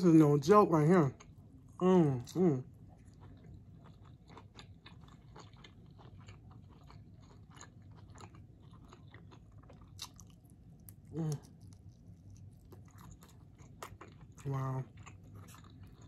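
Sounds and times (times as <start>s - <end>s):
person chewing food: 1.2s - 16.0s.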